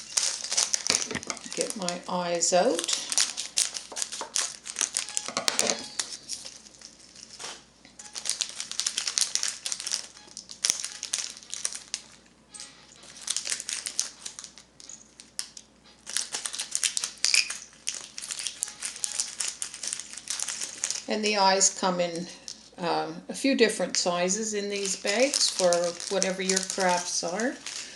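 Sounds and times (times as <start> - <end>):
plastic bags crinkling: 0.0 - 22.8, 23.9 - 27.9.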